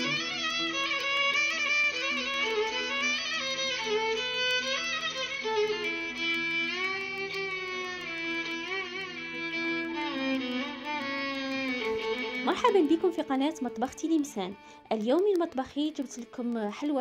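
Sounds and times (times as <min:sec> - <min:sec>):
violin playing long held notes: 0:00.0 - 0:16.3.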